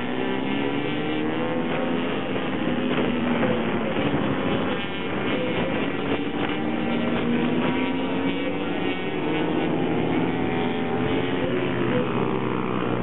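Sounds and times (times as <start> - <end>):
minibike engines revving: 0.0 - 13.0.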